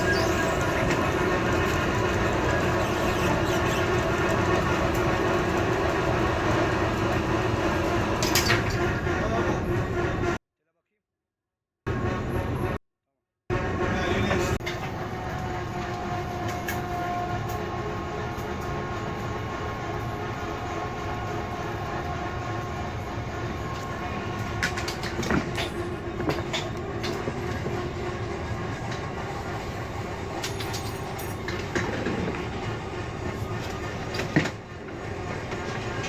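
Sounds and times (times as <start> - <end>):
machine mechanical drone: 0.0 - 10.4, 11.9 - 12.8, 13.5 - 36.0.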